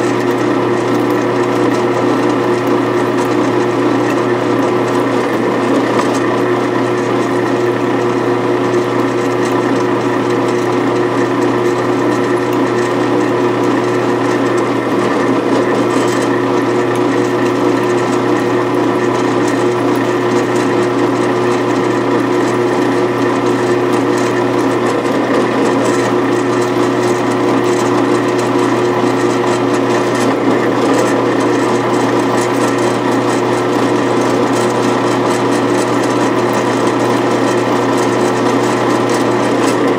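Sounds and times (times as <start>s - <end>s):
drill bit grinding metal: 0.0s - 39.9s
drill press motor humming: 0.0s - 39.9s.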